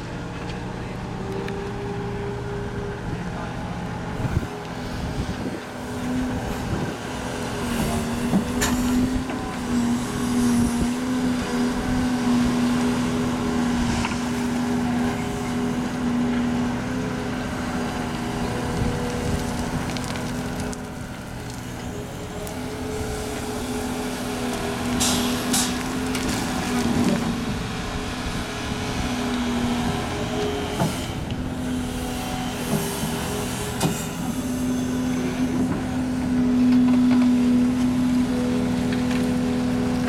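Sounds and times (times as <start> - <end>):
excavator engine and hydraulics droning: 0.0 - 40.0.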